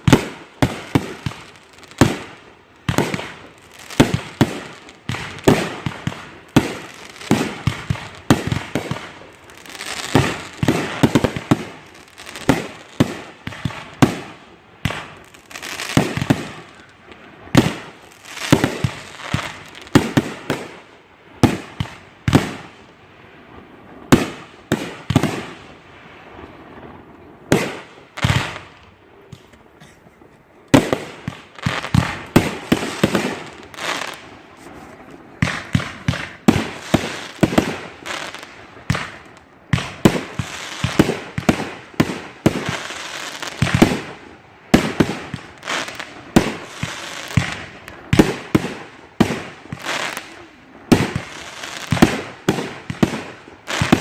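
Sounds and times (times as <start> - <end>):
fireworks banging and crackling: 0.0 - 54.0.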